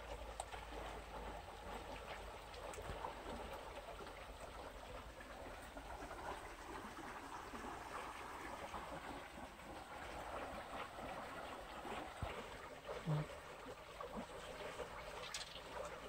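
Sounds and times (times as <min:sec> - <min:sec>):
stream flowing over stones: 0:00.0 - 0:16.0.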